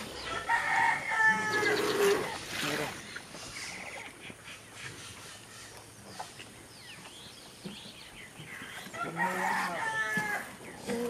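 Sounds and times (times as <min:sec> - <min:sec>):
small birds chirping: 0:01.3 - 0:11.0.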